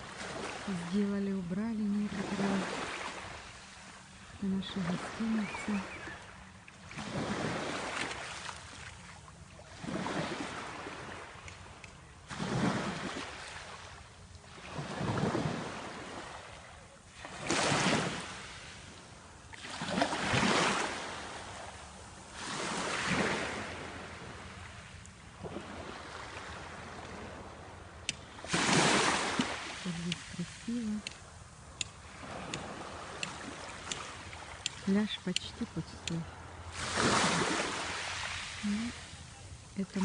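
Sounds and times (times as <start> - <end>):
small waves breaking on shore: 0.0 - 40.0.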